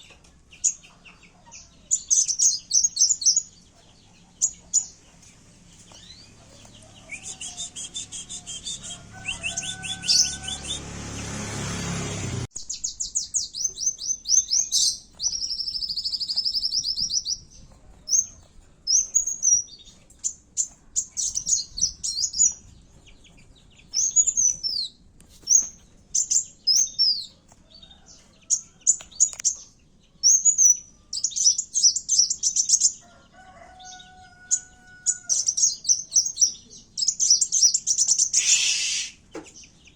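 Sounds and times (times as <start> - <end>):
sunbird chirps and trills: 0.0 - 33.0, 33.7 - 39.9.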